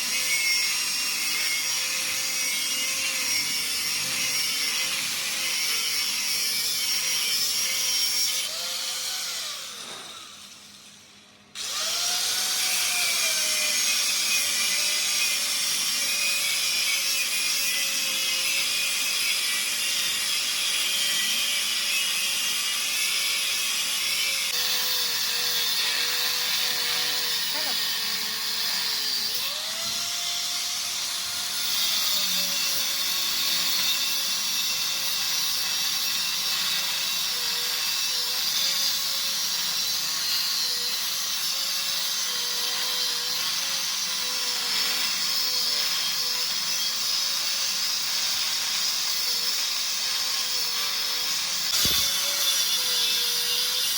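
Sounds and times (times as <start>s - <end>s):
power tool grinding metal: 0.0s - 10.7s, 11.6s - 53.9s.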